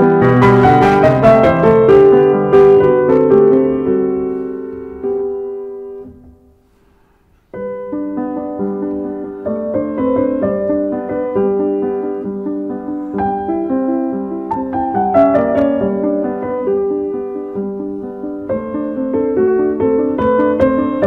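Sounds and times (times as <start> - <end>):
solo piano music: 0.0 - 21.0.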